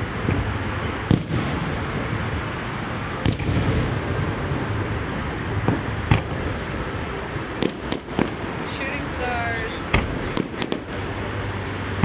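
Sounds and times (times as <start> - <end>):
outdoor rumble and hiss: 0.0 - 12.0
fireworks bangs: 0.2 - 6.8, 7.6 - 11.5.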